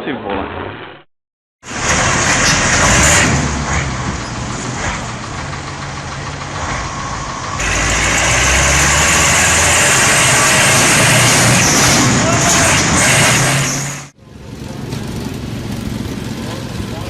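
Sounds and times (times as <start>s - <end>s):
heavy vehicle engine roar: 1.6s - 17.0s.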